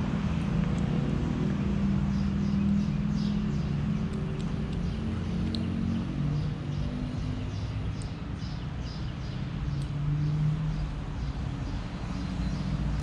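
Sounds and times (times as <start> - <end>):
small bird chirping: 2.1 - 13.0.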